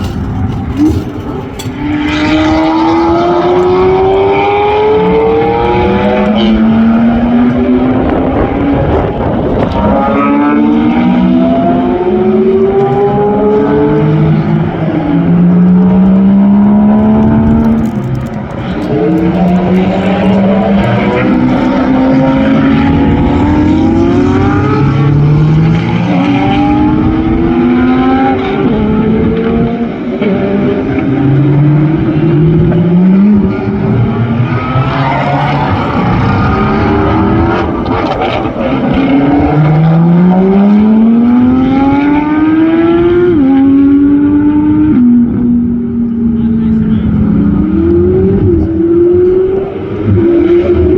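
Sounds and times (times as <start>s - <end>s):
supercar exhaust accelerating: 0.0s - 50.9s.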